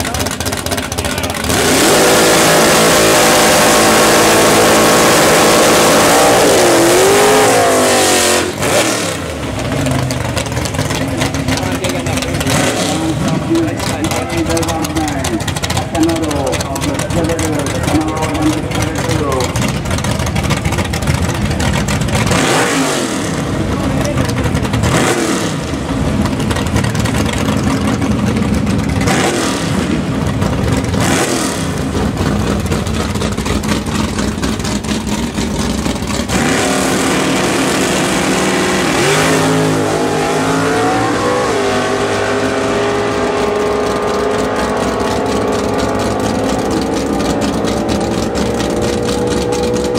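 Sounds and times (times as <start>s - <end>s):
drag car engine revving and launching: 0.0s - 49.9s.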